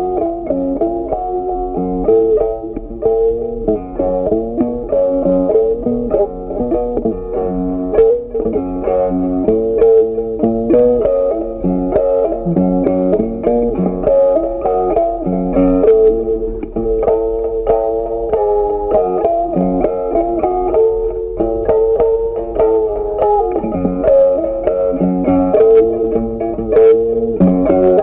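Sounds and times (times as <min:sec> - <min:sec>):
plucked guitar melody: 0:00.0 - 0:28.0.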